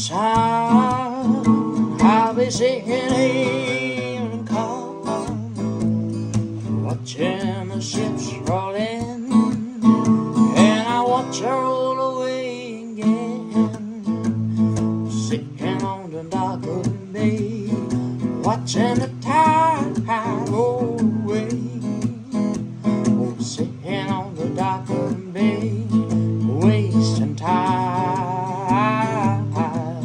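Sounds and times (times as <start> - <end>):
acoustic guitar strumming: 0.0 - 30.0
wordless vocal melody: 0.0 - 30.0.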